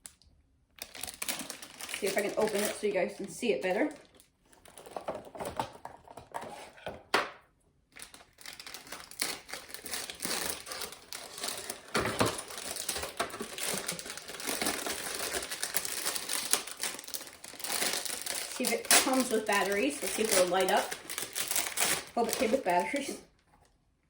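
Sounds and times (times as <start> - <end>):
packaging crinkling: 0.8 - 6.5, 7.9 - 23.2.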